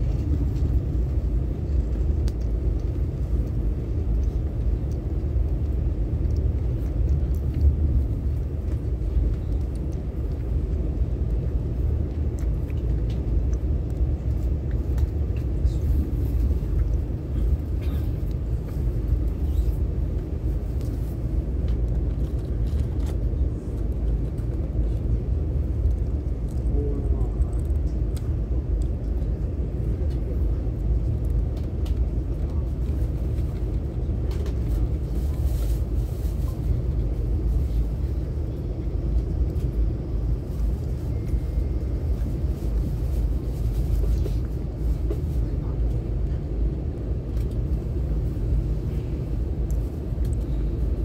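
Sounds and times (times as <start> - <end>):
train running along track rumble: 0.0 - 51.0.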